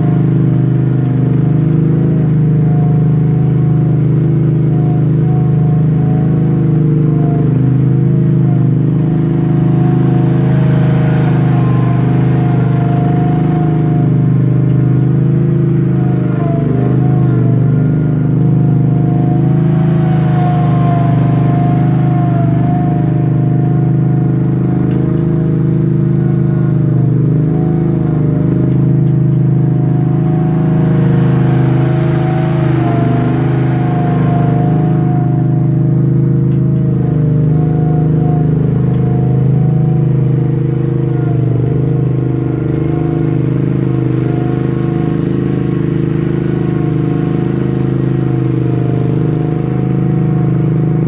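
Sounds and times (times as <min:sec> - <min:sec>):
roller engine running: 0:00.0 - 0:51.0
thin wavering whine: 0:00.0 - 0:51.0.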